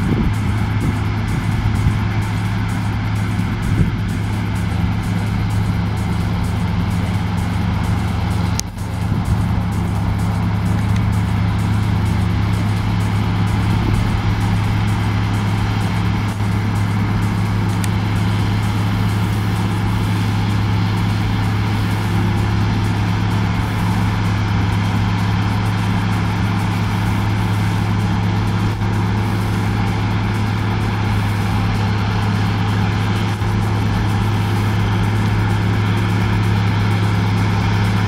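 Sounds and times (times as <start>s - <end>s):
combine harvester drone: 0.0s - 38.0s.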